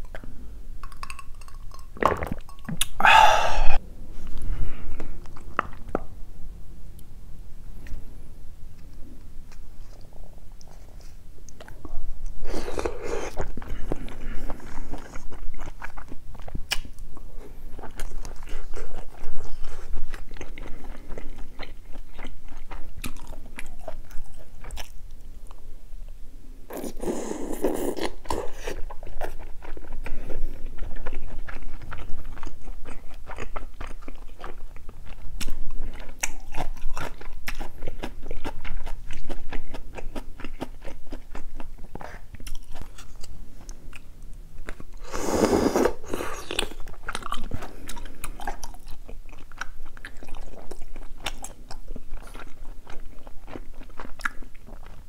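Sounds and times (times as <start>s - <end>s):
close chewing mouth sounds: 0.0s - 3.1s, 8.8s - 25.6s, 26.7s - 45.1s, 45.8s - 55.0s.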